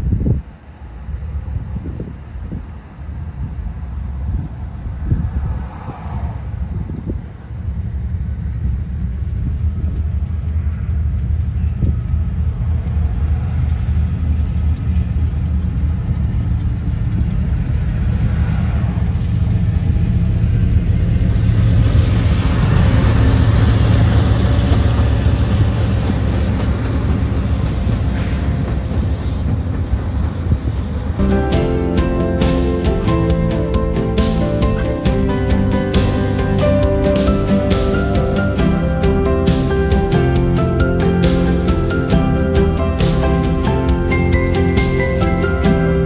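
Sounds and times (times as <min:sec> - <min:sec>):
diesel locomotive engine rumble: 0:00.0 - 0:46.0
pickup truck tyre and road hiss: 0:00.8 - 0:29.6, 0:31.2 - 0:46.0.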